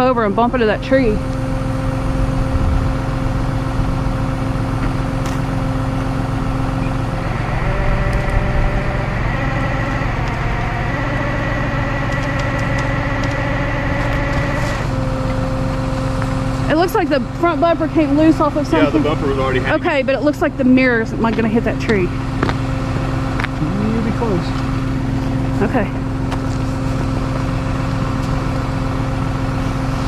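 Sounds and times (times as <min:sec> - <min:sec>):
truck engine running: 0:00.0 - 0:30.0
winch whine: 0:00.0 - 0:30.0.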